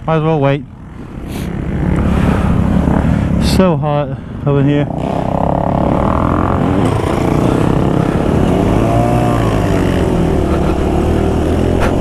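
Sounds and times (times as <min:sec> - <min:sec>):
dirt bike passing: 0:00.4 - 0:04.0, 0:04.6 - 0:12.0
dirt bike engine idling: 0:00.4 - 0:12.0.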